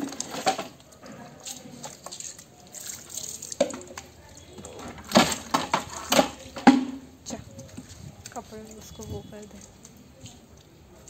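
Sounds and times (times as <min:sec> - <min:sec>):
water splashing on concrete: 0:00.0 - 0:11.0.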